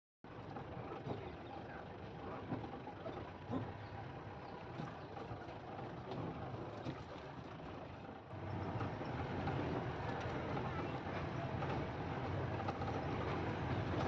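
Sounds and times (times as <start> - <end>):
vehicle engine and road noise: 0.3 - 14.0.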